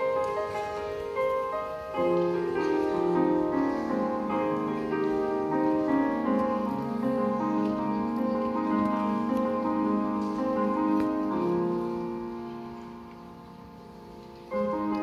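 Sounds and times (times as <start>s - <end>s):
piano slow held chords: 0.0s - 15.0s.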